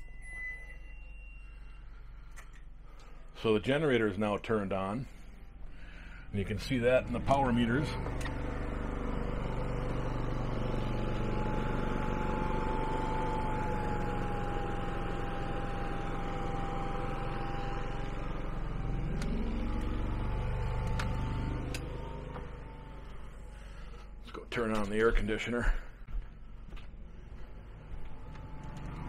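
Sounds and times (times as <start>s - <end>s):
generator engine drone: 0.0s - 29.0s
generator high whine: 0.0s - 29.0s.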